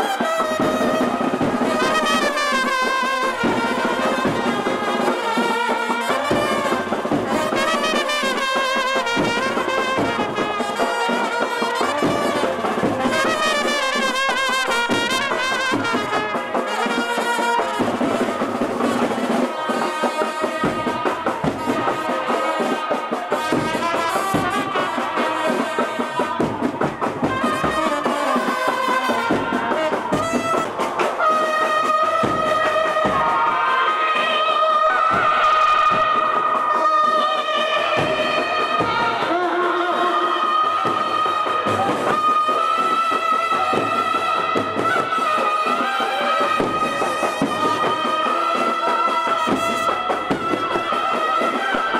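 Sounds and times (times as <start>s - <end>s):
brass band playing: 0.0s - 51.9s
drumbeats: 0.0s - 51.9s.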